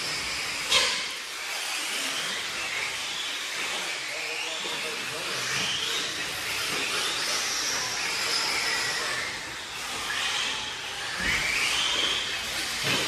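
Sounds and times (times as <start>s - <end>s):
electric toy car motors whining: 0.0s - 13.0s.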